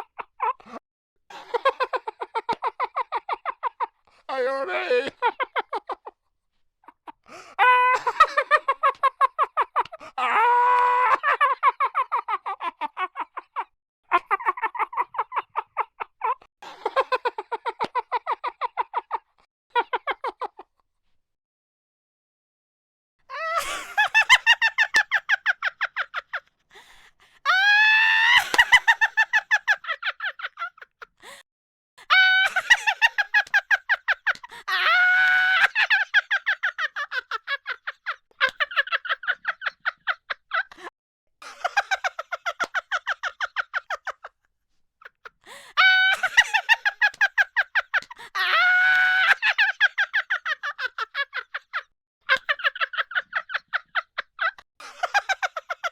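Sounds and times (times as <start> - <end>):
person laughing hard: 0.0 - 6.2, 6.8 - 20.6, 23.3 - 26.5, 27.5 - 31.4, 32.0 - 44.3, 45.1 - 55.9.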